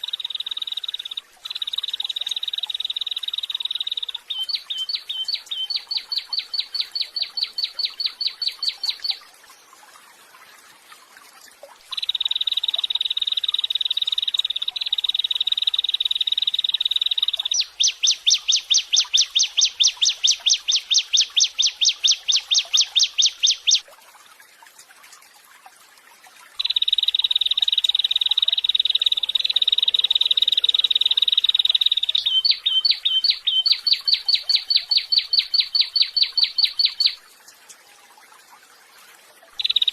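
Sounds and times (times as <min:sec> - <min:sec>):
songbird buzzy trills: 0:00.0 - 0:09.6, 0:11.8 - 0:23.8, 0:26.6 - 0:37.3, 0:39.6 - 0:39.9.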